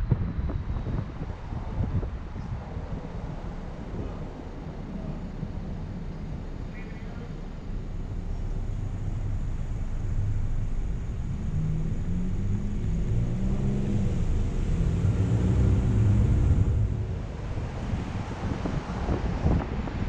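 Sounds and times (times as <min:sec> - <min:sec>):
car driving low rumble: 0:00.0 - 0:20.0.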